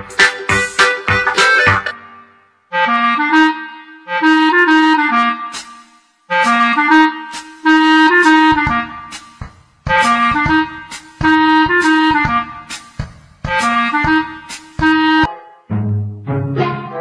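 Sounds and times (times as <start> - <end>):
reedy wind instrument melody: 0.0 - 12.9, 13.5 - 15.8.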